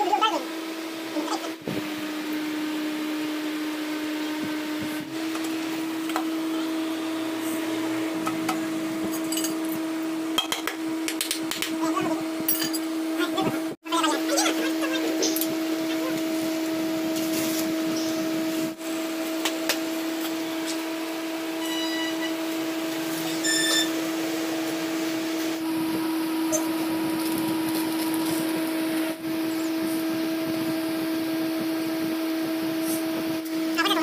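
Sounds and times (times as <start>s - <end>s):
steady electric hum: 0.0s - 34.0s.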